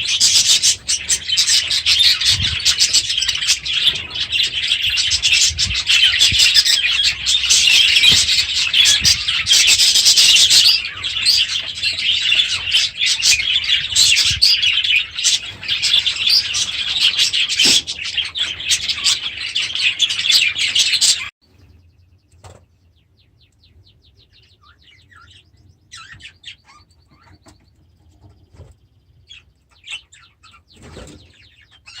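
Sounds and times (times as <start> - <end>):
budgies chattering and chirping: 0.0 - 32.0.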